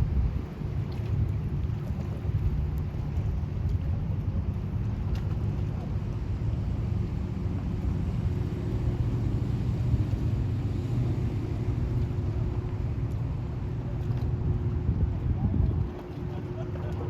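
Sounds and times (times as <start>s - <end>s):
ship engine rumble: 0.0s - 17.0s.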